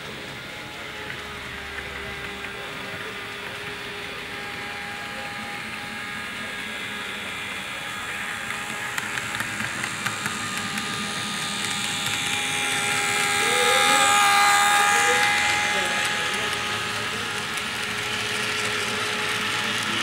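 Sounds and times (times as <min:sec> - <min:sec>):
model train humming drone: 0:00.0 - 0:20.0.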